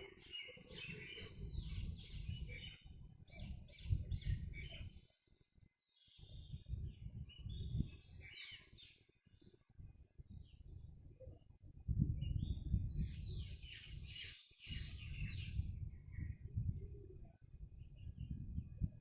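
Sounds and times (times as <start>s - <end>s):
birds chirping and twittering: 0.0s - 19.0s.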